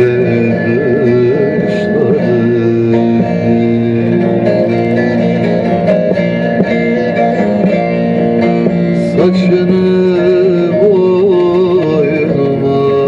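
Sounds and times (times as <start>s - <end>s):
plucked string instruments melody: 0.0s - 13.0s
steady held notes: 0.0s - 13.0s.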